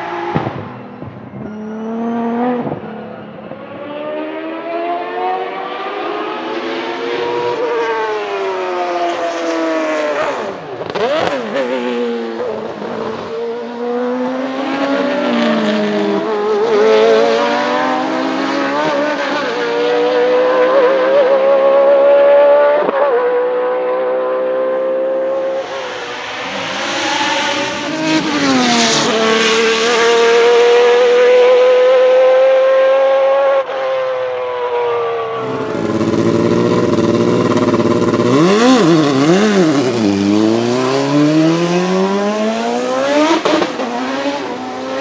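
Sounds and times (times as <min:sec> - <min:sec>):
racing car engine revving: 0:01.4 - 0:33.9, 0:35.3 - 0:45.0.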